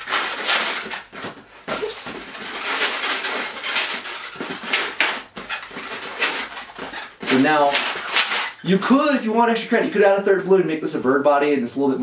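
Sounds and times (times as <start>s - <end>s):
balloons squeaking and rubbing: 0.0s - 9.8s.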